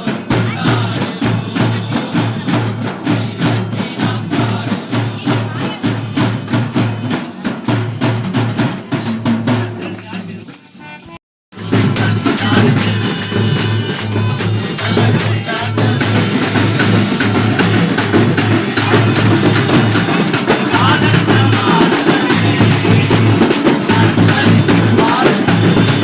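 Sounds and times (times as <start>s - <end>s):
drums playing fast beat: 0.0s - 26.0s
jingling tambourine: 0.0s - 26.0s.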